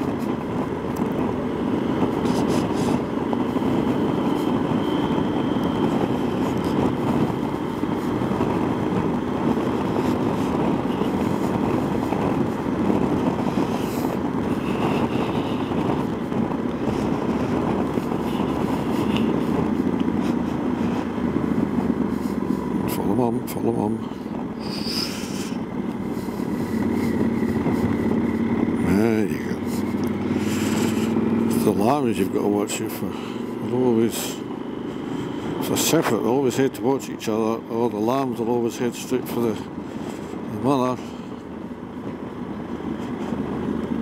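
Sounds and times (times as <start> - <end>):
motorcycle engine running: 0.0 - 44.0
wind noise: 0.0 - 44.0.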